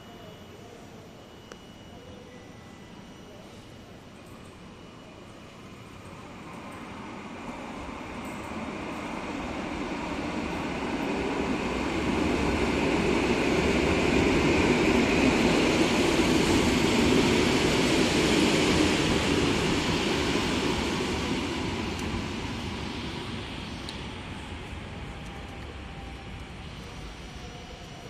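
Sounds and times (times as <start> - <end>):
train rumbling on rails: 5.5 - 28.0.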